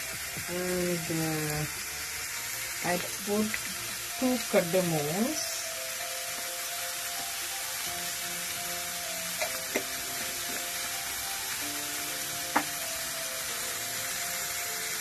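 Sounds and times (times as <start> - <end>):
food sizzling in a pot: 0.0 - 15.0
soft background music: 0.0 - 15.0.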